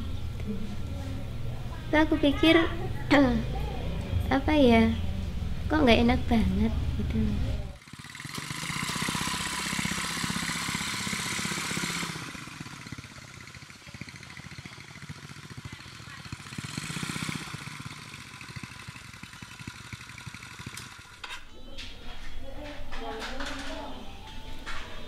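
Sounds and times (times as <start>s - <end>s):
small motorcycle engine running: 0.0s - 21.4s.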